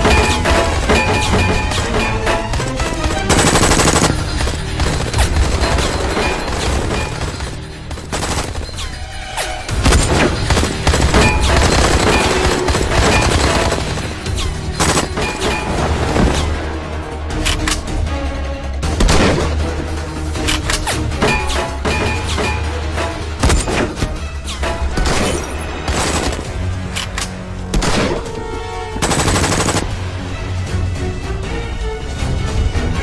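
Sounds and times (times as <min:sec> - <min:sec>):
tense music score: 0:00.0 - 0:33.0.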